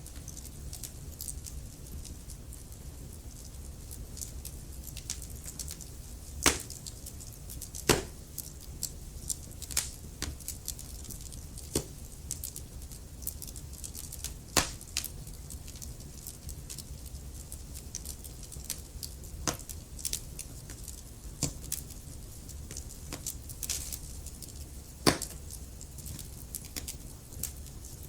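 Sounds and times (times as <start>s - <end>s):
burning logs popping: 0.0s - 28.0s
fire crackling: 0.0s - 28.0s
fire rumbling: 0.0s - 28.0s.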